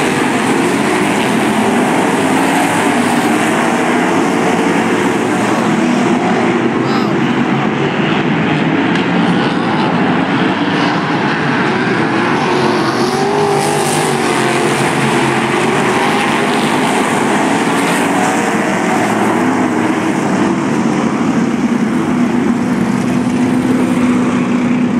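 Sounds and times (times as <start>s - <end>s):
racing car engines roaring: 0.0s - 24.9s.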